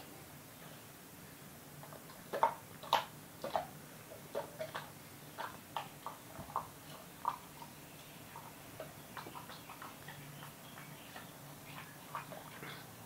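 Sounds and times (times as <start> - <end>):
dog chewing: 1.8 - 13.0.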